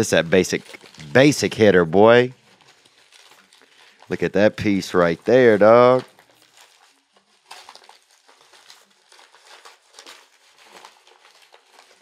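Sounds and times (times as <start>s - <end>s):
paper packaging crinkling: 0.0s - 12.0s.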